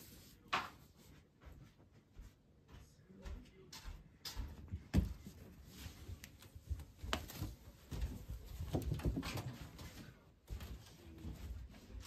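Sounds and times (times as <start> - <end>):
bare footsteps on wooden floor: 0.7 - 11.6.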